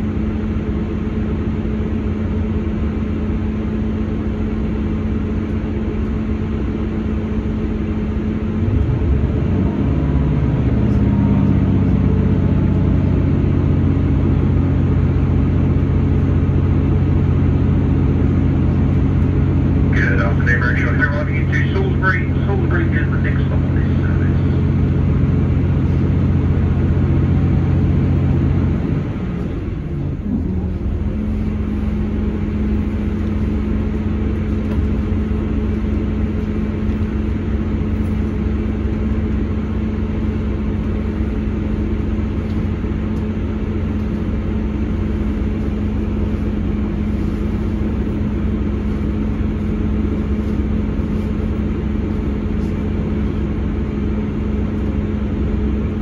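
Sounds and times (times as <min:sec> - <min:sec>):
train diesel engine drone: 0:00.0 - 0:56.0
wheels rumbling on rail: 0:00.0 - 0:56.0.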